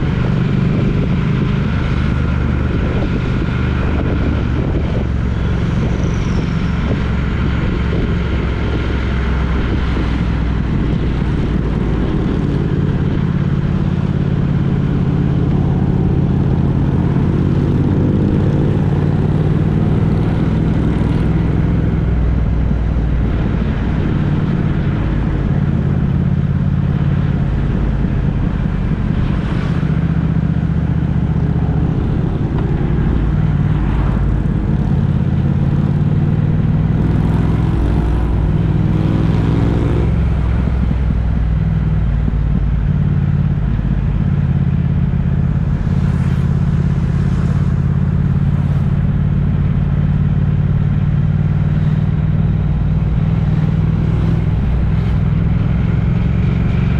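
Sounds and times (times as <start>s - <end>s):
road noise: 0.0s - 56.9s
vehicle engine hum: 0.0s - 56.9s.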